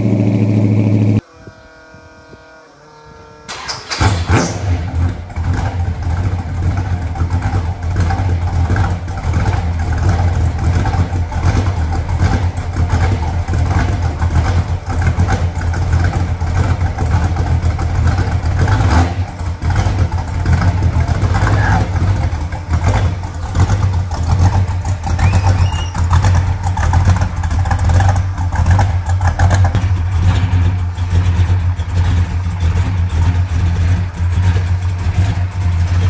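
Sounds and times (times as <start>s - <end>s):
car engine starting and running: 0.0s - 1.3s, 3.4s - 36.0s.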